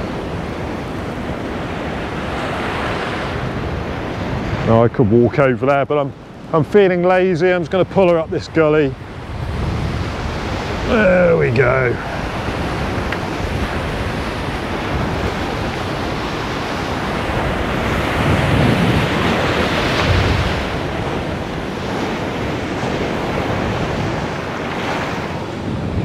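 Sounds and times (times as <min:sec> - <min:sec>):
waves breaking on rocks: 0:00.0 - 0:26.0
wind buffeting microphone: 0:00.0 - 0:26.0.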